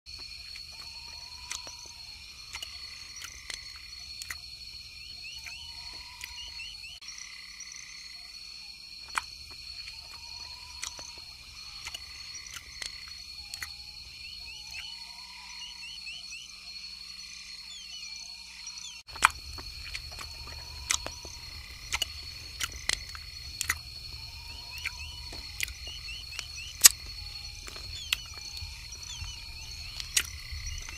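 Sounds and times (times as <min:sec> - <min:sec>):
insect drone with chirps: 0:00.1 - 0:30.9.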